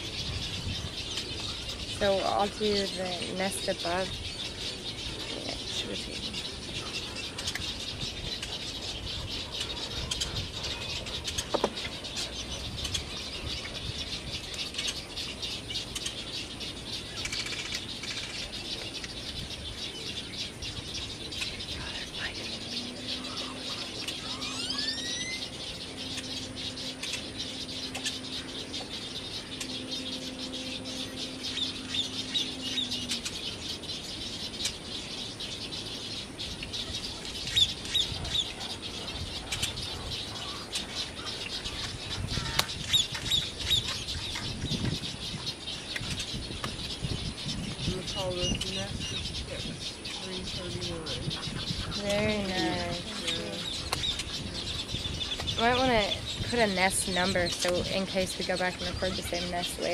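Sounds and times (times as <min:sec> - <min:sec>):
chorus of bird chirps and calls: 0:00.0 - 0:59.9
low steady hum: 0:00.0 - 0:59.9.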